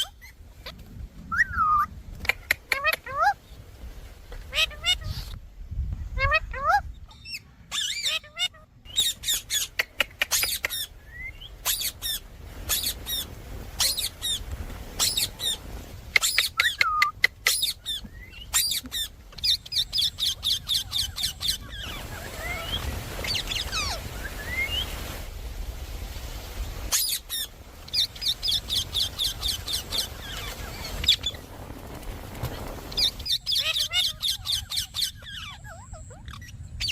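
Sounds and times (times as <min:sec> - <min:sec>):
parrot squawking and chirping: 0:00.0 - 0:03.4, 0:04.3 - 0:05.4, 0:06.2 - 0:14.4, 0:15.0 - 0:24.9, 0:26.9 - 0:31.4, 0:32.9 - 0:36.9.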